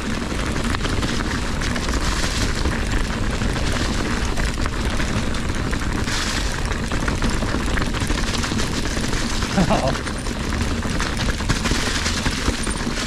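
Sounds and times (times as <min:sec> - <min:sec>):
bike clattering over bumps: 0:00.0 - 0:13.0
bike tyre noise: 0:00.0 - 0:13.0
wind rumble on microphone: 0:00.0 - 0:13.0.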